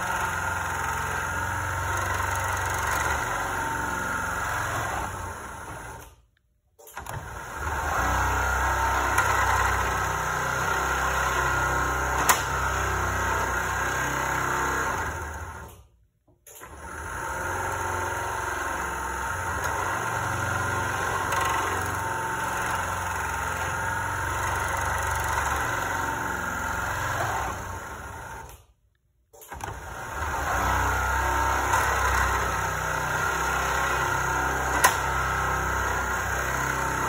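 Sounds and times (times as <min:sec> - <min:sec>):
garage door opener humming: 0:00.0 - 0:37.0.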